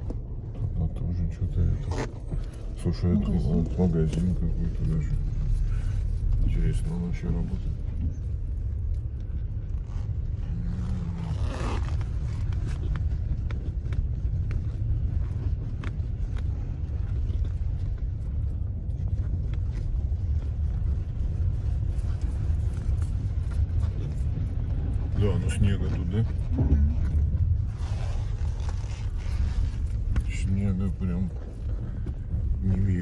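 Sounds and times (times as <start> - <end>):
car engine and road rumble: 0.0 - 33.0
faint ticks and crackles: 0.0 - 33.0.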